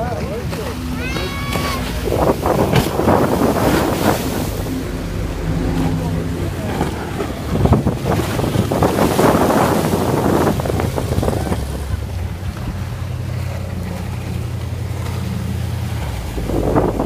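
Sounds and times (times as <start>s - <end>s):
powerboat engines running: 0.0s - 17.0s
wind buffeting microphone: 0.0s - 17.0s.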